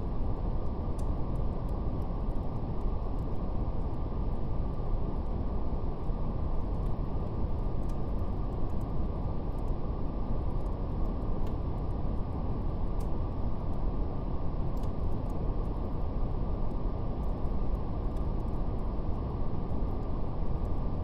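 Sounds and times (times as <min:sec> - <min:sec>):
fire crackling: 0:00.2 - 0:21.0.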